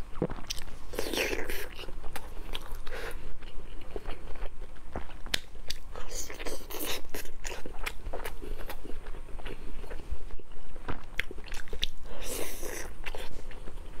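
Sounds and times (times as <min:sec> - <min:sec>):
biting and chewing meatballs: 0:00.0 - 0:14.0.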